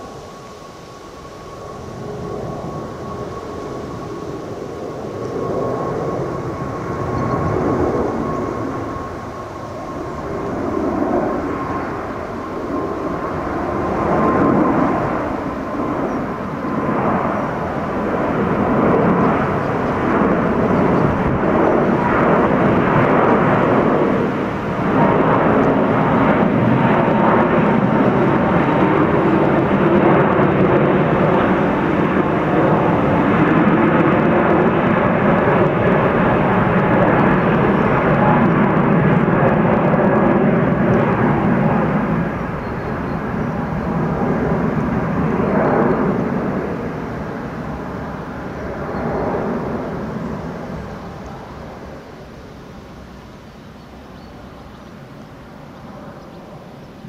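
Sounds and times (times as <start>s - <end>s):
faint engine whine: 0.0s - 57.0s
jet engines roaring overhead: 0.0s - 57.0s.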